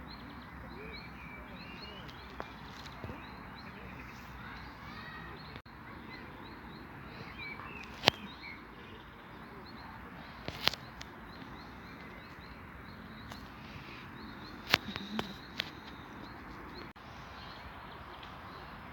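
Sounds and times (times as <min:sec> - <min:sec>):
outdoor background hiss: 0:00.0 - 0:18.9
small birds chirping: 0:00.0 - 0:18.9.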